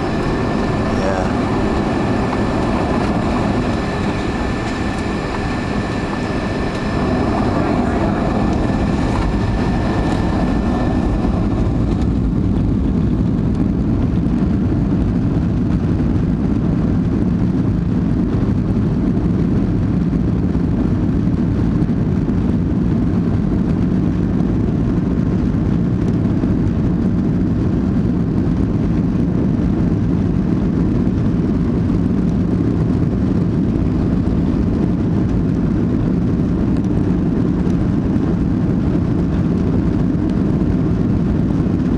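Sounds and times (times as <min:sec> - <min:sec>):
high engine whine: 0:00.0 - 0:41.9
jet engines rushing: 0:00.0 - 0:41.9.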